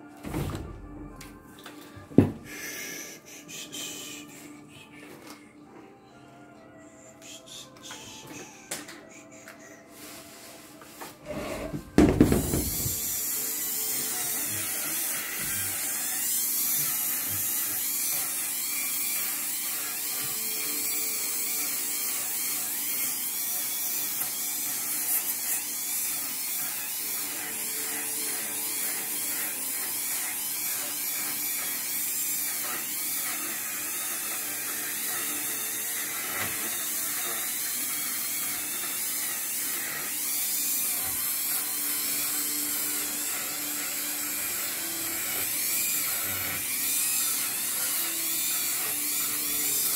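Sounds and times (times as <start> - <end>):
rotary tool grinding wood: 7.2 - 49.9.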